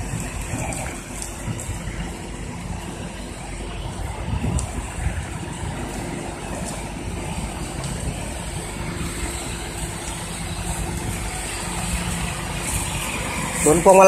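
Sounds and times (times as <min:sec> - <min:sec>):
wind rumble on microphone: 0:00.0 - 0:13.9
car engine humming: 0:00.0 - 0:14.0.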